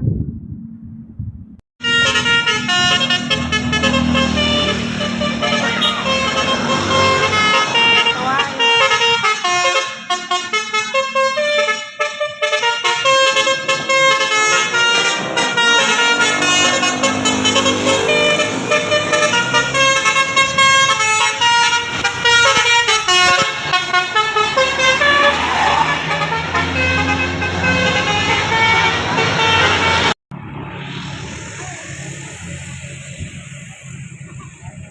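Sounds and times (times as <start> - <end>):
bus musical horn playing a tune: 1.8 - 30.2.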